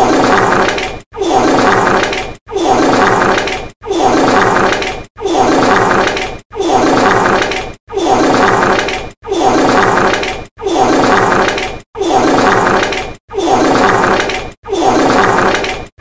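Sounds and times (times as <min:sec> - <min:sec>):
fart sound: 0:00.0 - 0:15.9.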